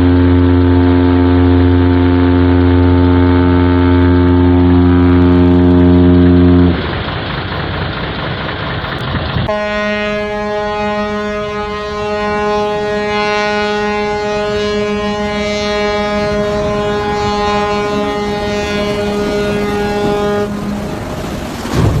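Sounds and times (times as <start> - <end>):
ship's horn blast: 0.0 - 6.9, 9.5 - 22.0
low background rumble: 0.0 - 22.0.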